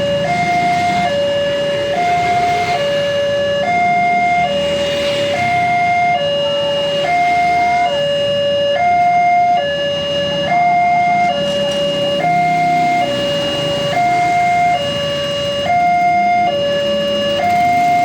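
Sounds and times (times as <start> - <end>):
two-tone level-crossing alarm: 0.0 - 18.0.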